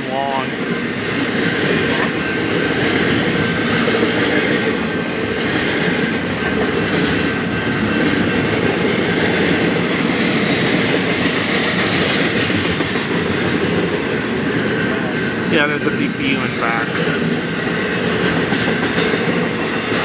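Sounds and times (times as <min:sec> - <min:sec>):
freight train cars rolling past: 0:00.0 - 0:20.0.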